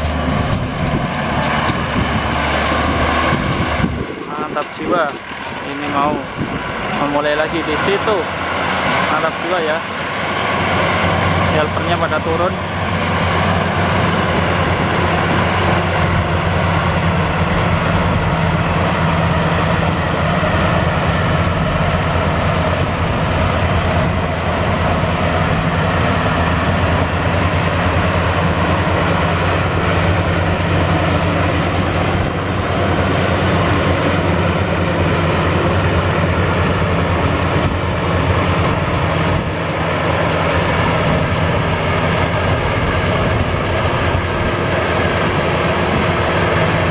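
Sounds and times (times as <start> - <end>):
combine harvester engine drone: 0.0 - 46.9
machinery noise: 0.0 - 46.9.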